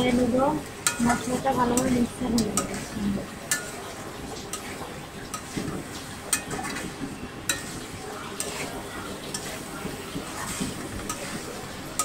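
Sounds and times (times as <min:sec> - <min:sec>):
meat sizzling in oil: 0:00.0 - 0:12.0
spatula scraping metal pan: 0:00.0 - 0:12.0.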